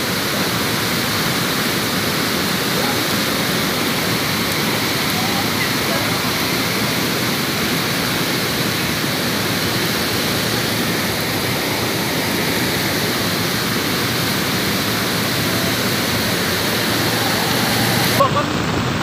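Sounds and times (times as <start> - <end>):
river water rushing over weir: 0.0 - 19.0.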